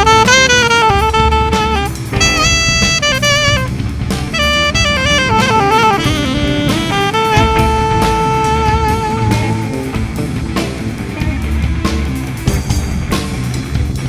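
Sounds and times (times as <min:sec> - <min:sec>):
lead instrument melody: 0:00.0 - 0:13.1
bass: 0:00.0 - 0:14.0
drums: 0:00.0 - 0:14.0.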